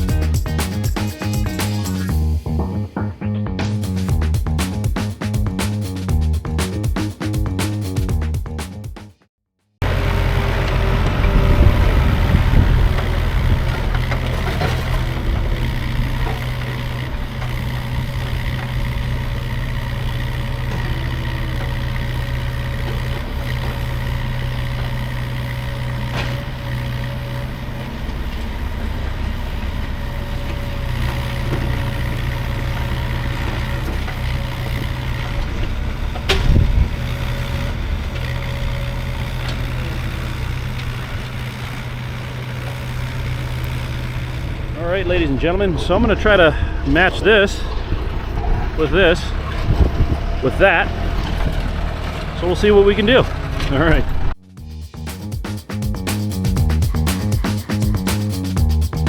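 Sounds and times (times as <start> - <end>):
diesel engine running: 0.0 - 8.8, 9.8 - 59.0.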